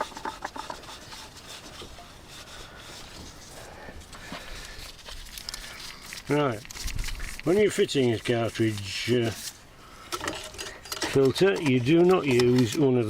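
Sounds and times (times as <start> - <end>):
faint rubbing: 0.0 - 10.7.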